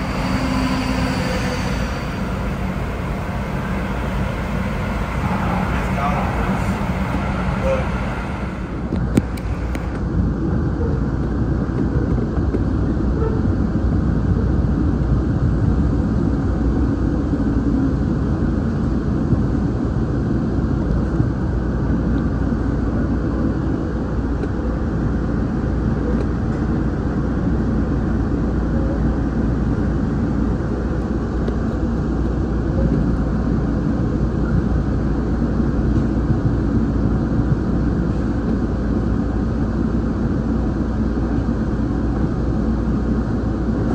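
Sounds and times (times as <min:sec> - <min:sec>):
train rumbling on track: 0:00.0 - 0:43.9.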